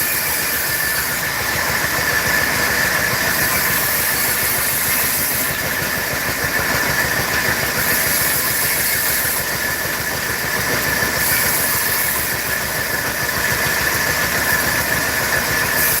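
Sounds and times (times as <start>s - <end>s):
constant high tone: 0.0s - 16.0s
machine running with pulsing: 0.0s - 16.0s.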